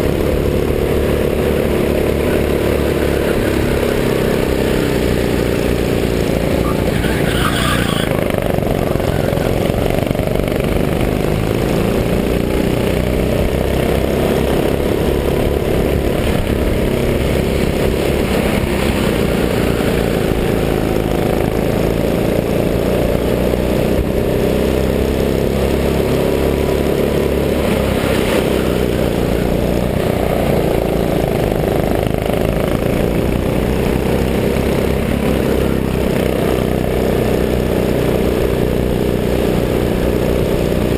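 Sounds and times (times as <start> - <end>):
go-kart engine revving: 0.0 - 40.9.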